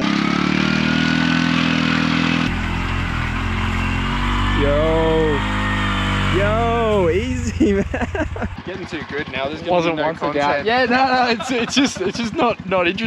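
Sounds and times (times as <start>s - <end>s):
auto-rickshaw engine running: 0.0s - 13.0s.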